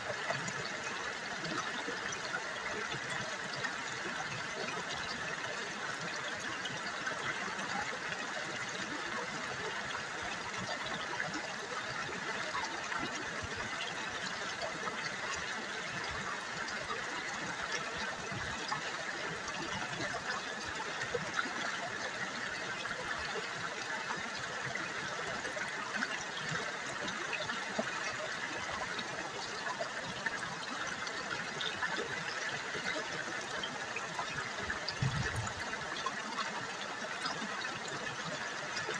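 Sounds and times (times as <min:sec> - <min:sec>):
river water burbling over stones: 0:00.0 - 0:38.9.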